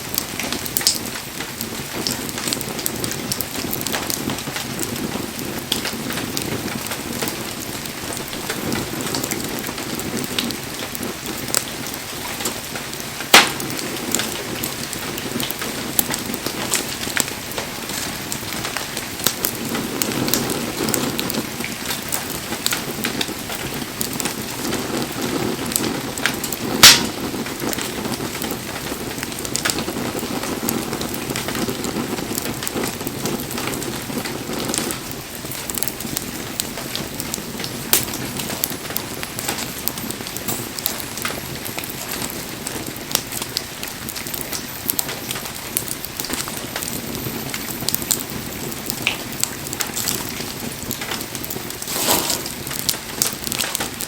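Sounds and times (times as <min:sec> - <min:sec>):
bonfire flames crackling: 0:00.0 - 0:54.0
loud pops from burning wood: 0:00.0 - 0:54.0.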